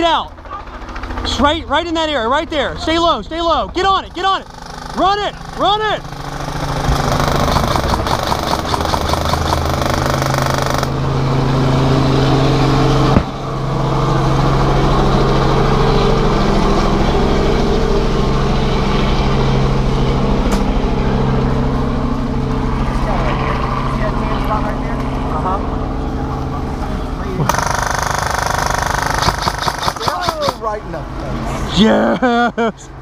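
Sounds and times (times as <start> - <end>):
vehicle engine running loud: 0.0 - 33.0.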